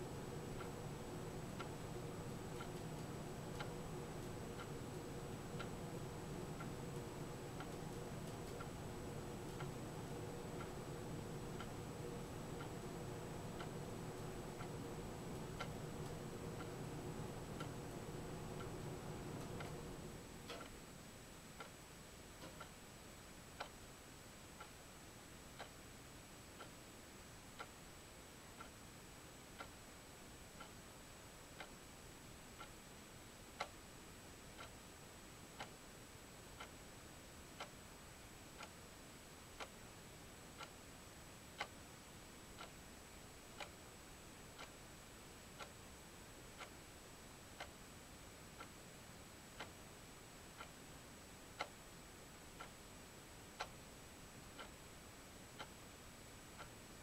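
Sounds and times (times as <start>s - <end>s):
faint steady ticking: 0.0s - 57.0s
low hiss: 0.0s - 57.0s.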